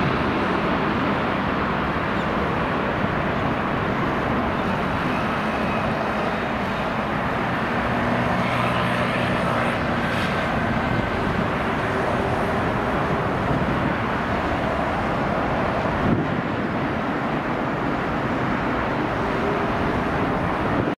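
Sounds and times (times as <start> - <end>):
jet engines of landing airliner: 0.0 - 21.0.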